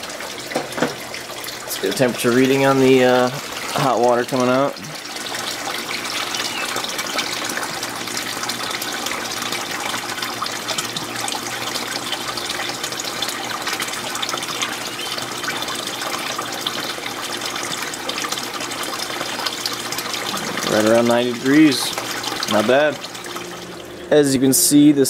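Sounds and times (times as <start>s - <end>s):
water pouring and splashing: 0.0s - 25.0s.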